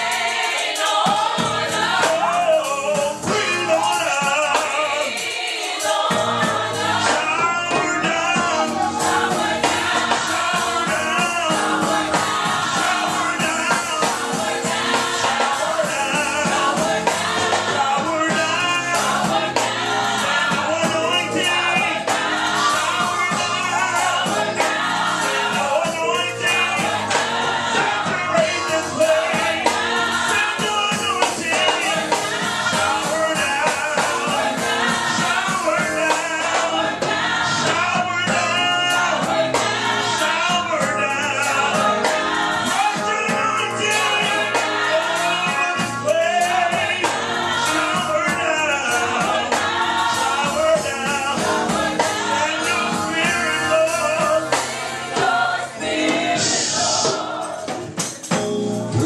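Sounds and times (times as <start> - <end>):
backing band: 0.0 - 59.0
group of singers: 0.0 - 59.0.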